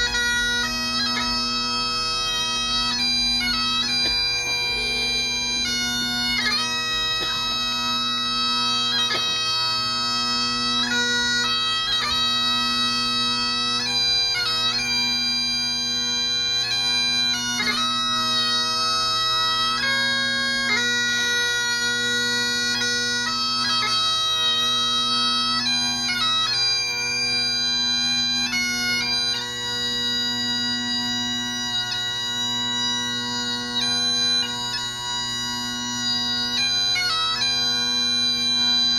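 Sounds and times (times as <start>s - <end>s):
bagpipes playing slow melody: 0.0s - 38.9s.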